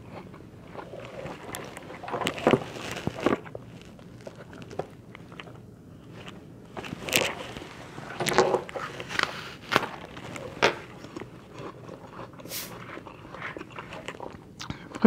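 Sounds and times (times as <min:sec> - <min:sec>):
apple crunching: 0:00.0 - 0:15.0
quiet chewing: 0:00.0 - 0:15.0.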